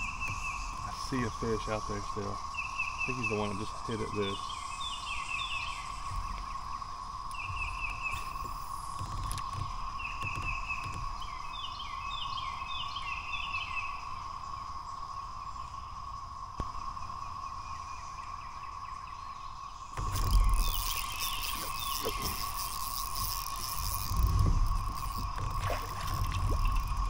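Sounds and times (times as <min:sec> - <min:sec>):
cicadas droning: 0:00.0 - 0:27.0.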